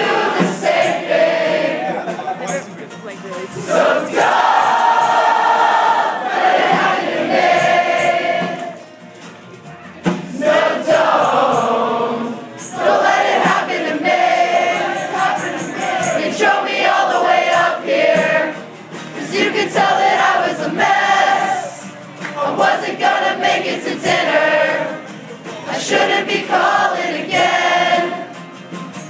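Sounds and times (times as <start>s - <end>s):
crowd singing along: 0.0s - 2.4s, 3.4s - 9.2s, 10.0s - 28.7s
strummed acoustic guitars: 0.0s - 29.0s.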